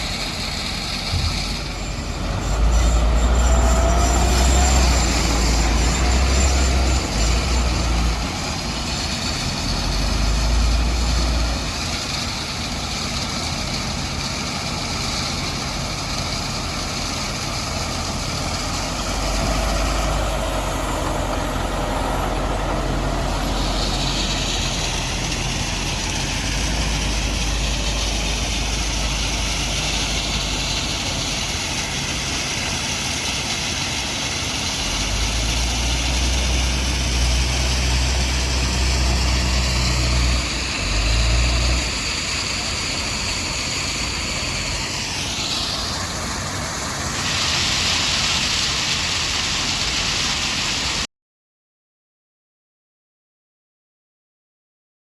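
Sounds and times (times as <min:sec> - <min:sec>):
heavy machinery engine rumble: 0:00.0 - 0:51.0.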